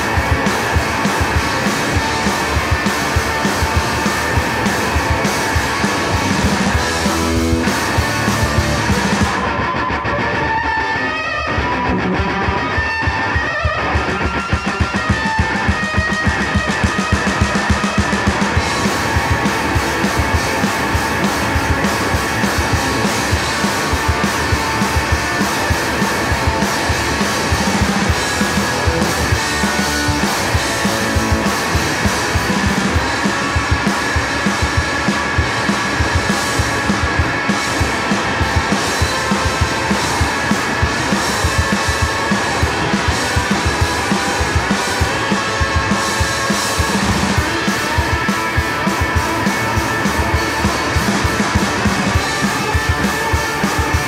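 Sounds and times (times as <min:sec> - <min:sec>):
driving drum kit beat: 0:00.0 - 0:54.0
electric guitar: 0:00.0 - 0:54.0.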